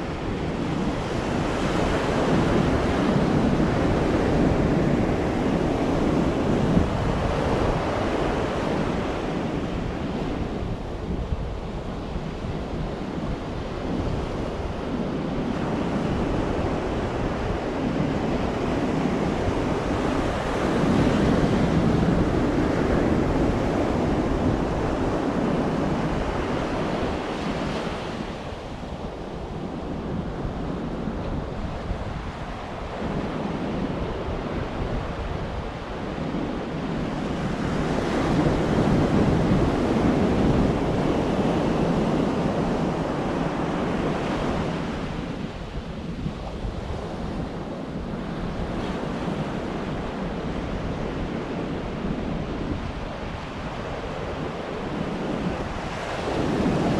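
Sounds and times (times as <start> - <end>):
wind rumbling on microphone: 0.0 - 56.9.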